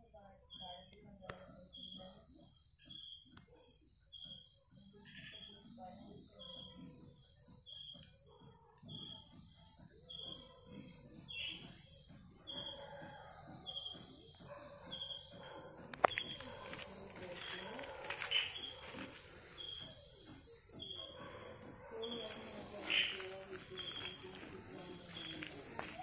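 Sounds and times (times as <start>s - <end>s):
night insects droning and chirping: 0.0s - 26.0s.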